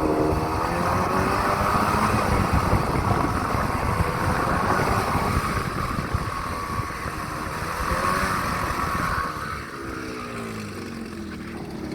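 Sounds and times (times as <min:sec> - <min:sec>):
strange engine noise: 0:00.0 - 0:11.9.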